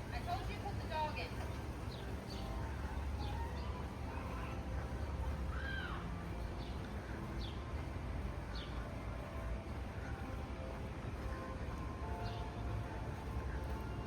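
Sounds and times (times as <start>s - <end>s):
steady low rumble: 0.0s - 14.0s
birds chirping: 0.1s - 14.0s.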